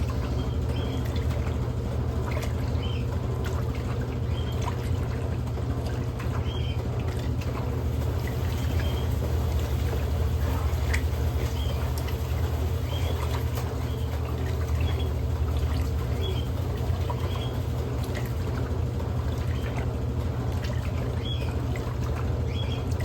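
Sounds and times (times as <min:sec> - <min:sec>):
washing machine motor hum: 0:00.0 - 0:23.0
water pouring and sloshing: 0:00.0 - 0:23.0.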